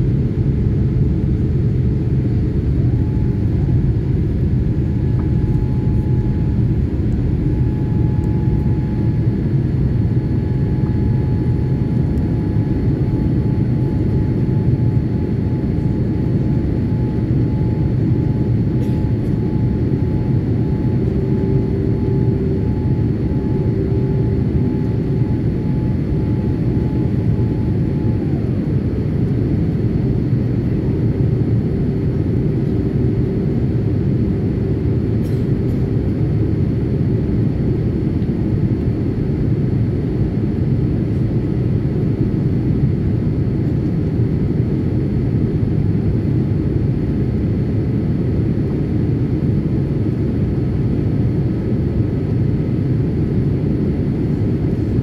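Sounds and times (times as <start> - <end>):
airplane cabin engine rumble: 0.0 - 55.0
faint whine: 0.0 - 55.0.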